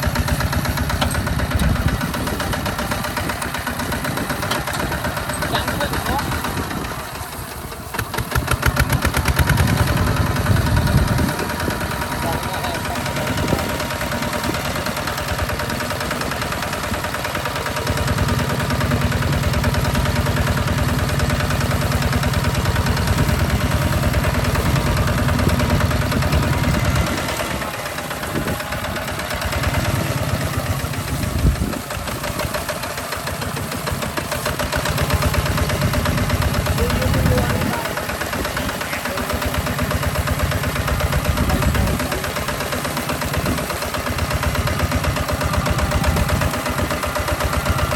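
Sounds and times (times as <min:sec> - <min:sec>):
tractor diesel engine chugging: 0:00.0 - 0:47.9.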